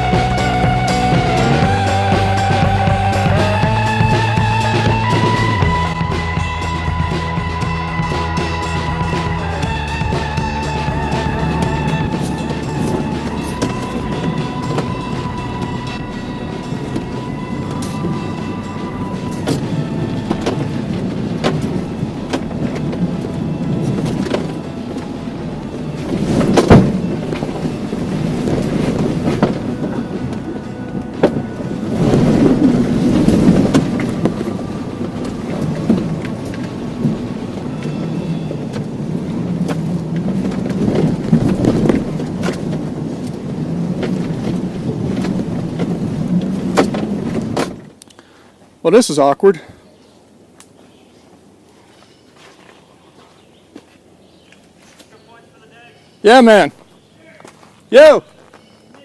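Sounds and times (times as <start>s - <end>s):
truck rattling and knocking: 0.0s - 48.0s
truck engine under load: 0.0s - 48.5s.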